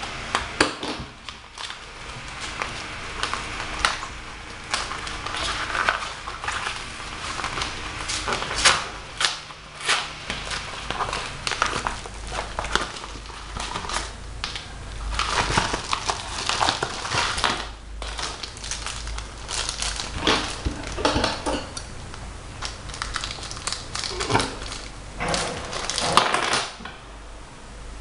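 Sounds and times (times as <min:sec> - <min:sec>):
packaging crinkling: 0:00.1 - 0:26.8.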